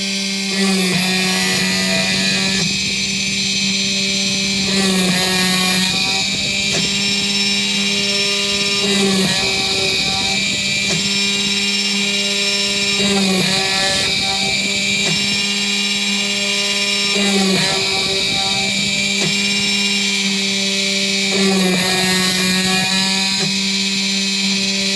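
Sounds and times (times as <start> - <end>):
drill spindle motor whining: 0.0 - 24.9.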